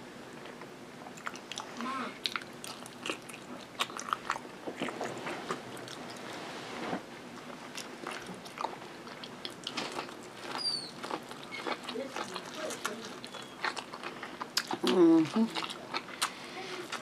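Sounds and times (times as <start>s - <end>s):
person biting and chewing food: 1.1s - 6.2s, 7.3s - 17.0s.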